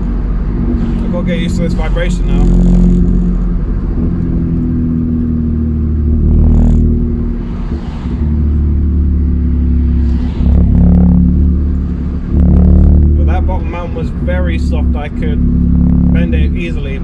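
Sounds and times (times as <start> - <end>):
car engine droning in cabin: 0.0 - 17.0.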